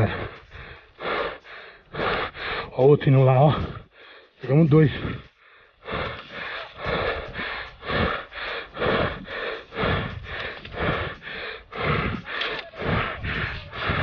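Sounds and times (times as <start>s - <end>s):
man panting heavily: 0.0s - 14.0s.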